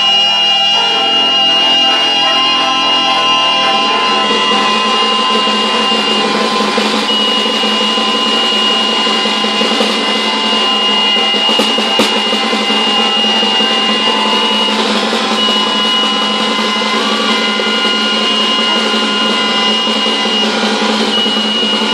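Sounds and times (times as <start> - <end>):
ensemble playing buzzing drone: 0.0 - 21.9.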